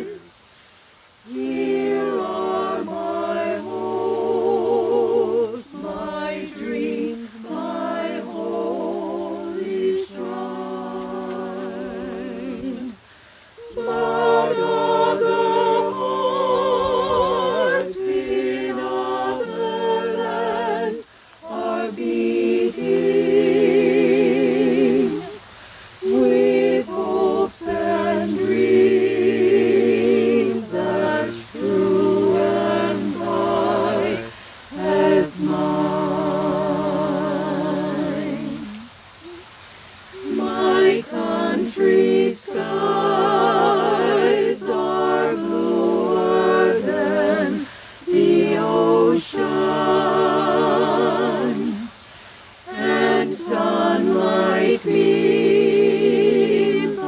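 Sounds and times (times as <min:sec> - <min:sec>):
a cappella ensemble singing: 0:00.0 - 0:57.0.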